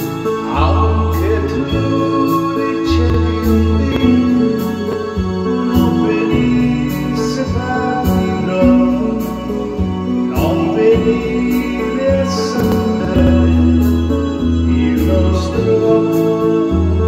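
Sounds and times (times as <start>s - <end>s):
bass: 0.0s - 17.0s
keyboard: 0.0s - 17.0s
man singing into microphone: 0.0s - 17.0s.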